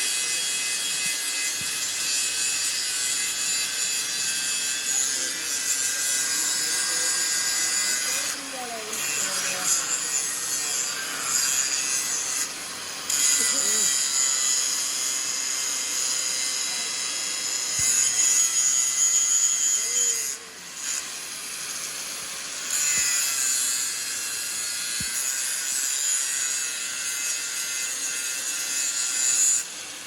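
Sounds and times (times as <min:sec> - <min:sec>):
metal grinding hiss: 0:00.0 - 0:30.0.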